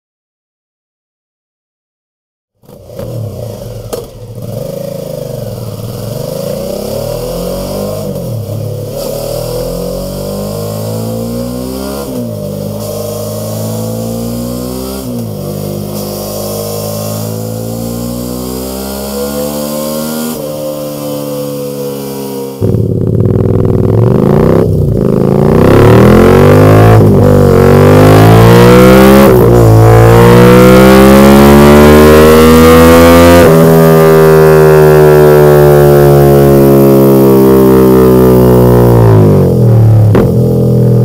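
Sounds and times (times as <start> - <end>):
motorcycle engine revving: 2.6 - 41.0.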